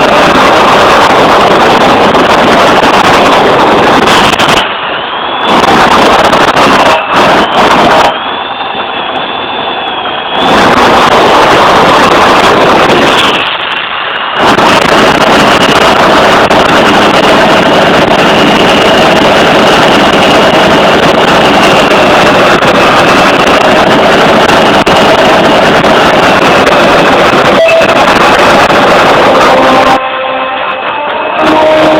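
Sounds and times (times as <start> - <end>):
jet engine running with high whine: 0.0 - 31.9.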